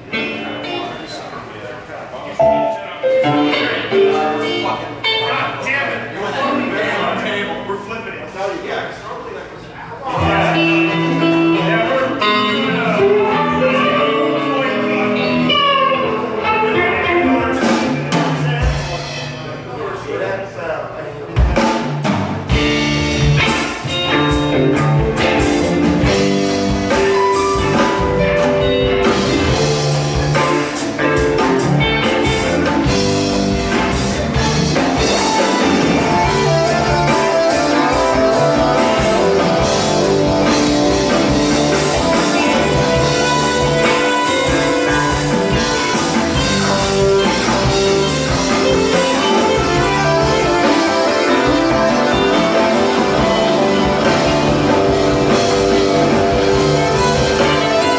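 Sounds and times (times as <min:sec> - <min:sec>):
live rock band playing: 0:00.0 - 0:07.7, 0:10.1 - 0:20.3, 0:20.9 - 0:57.9.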